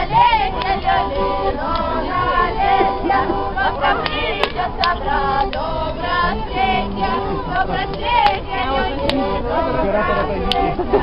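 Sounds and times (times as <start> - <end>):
crowd singing and calling out: 0.0 - 11.0.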